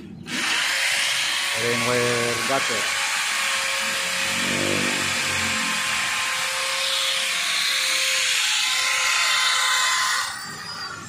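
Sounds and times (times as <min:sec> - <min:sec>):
electric drill drilling concrete: 0:00.2 - 0:11.0.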